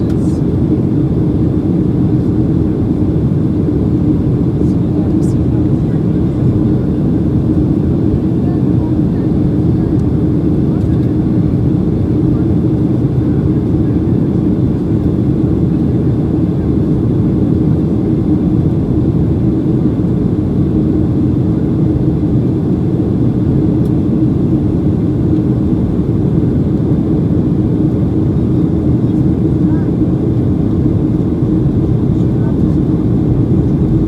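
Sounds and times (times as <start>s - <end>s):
airplane cabin roar: 0.0s - 34.0s
low steady hum: 0.0s - 34.0s.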